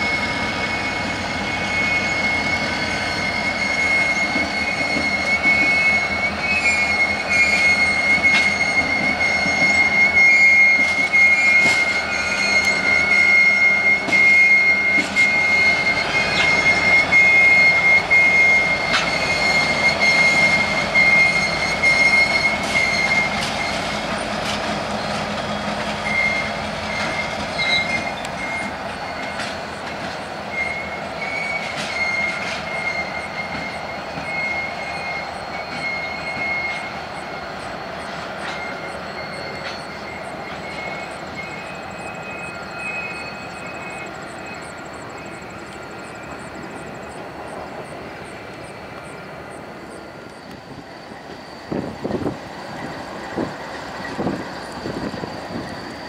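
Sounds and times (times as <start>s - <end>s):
locomotives rolling past: 0.0s - 56.0s
wheel flanges squealing on rail: 0.0s - 56.0s.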